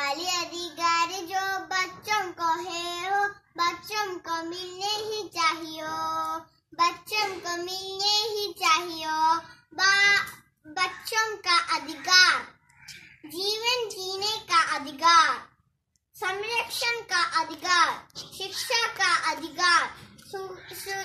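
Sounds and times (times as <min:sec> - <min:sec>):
girl singing unaccompanied: 0:00.0 - 0:12.6, 0:13.2 - 0:15.5, 0:16.2 - 0:21.0.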